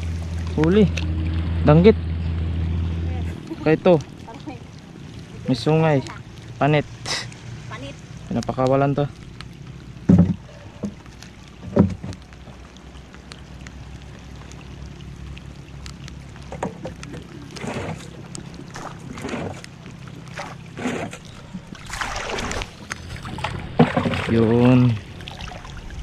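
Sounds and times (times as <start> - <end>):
small boat engine idling: 0.0 - 26.0
water splashing: 0.0 - 26.0.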